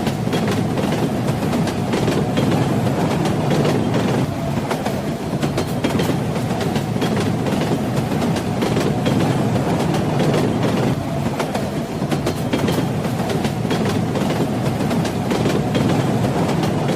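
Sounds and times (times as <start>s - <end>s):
train wheels rumbling and clacking: 0.0s - 16.9s.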